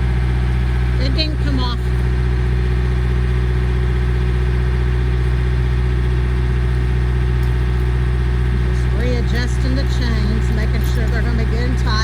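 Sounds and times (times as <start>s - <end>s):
machine engine running steadily: 0.0s - 12.0s.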